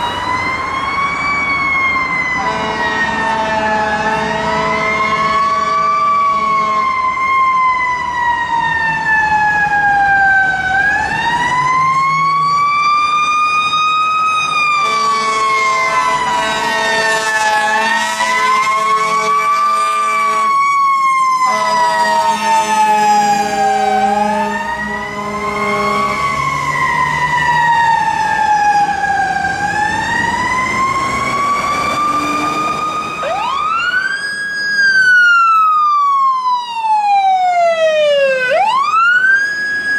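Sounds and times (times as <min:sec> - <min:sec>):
fire engine siren wailing: 0:00.0 - 0:39.9
siren sweeping up in pitch: 0:00.0 - 0:39.9.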